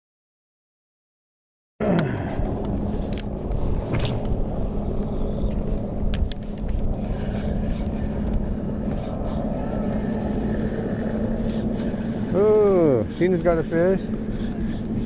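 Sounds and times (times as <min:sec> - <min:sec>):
engine running: 0:01.9 - 0:15.0.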